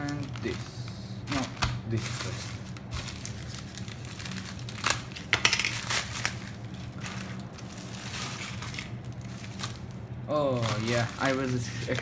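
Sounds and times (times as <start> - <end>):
plastic pouch crinkling and tearing: 0.0 - 12.0.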